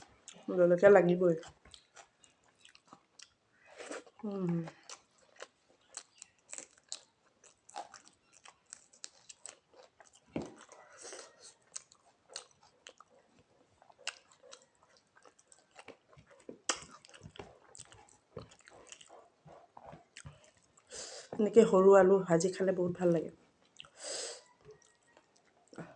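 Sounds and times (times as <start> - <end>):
person chewing crunchy food: 1.4 - 21.4, 23.4 - 25.9.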